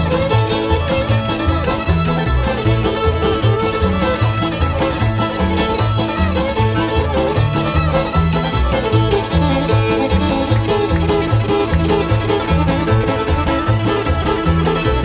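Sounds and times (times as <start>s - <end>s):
banjo: 0.0s - 15.0s
bass line: 0.0s - 15.0s
fiddle lead: 0.0s - 15.0s
guitar: 0.0s - 15.0s.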